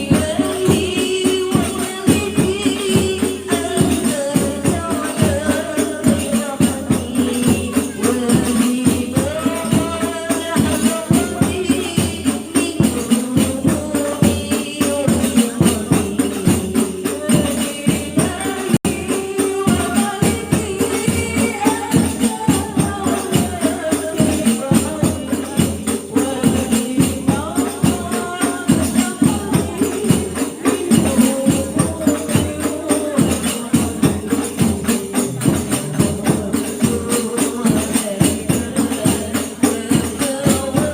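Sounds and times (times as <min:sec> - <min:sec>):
frame drums beating: 0:00.0 - 0:40.9
women singing in unison: 0:00.0 - 0:40.9.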